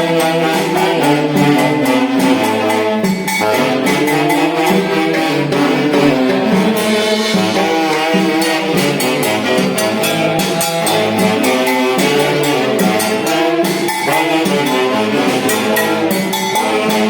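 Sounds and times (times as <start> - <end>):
band with saxophones brass and drums: 0.0 - 17.0.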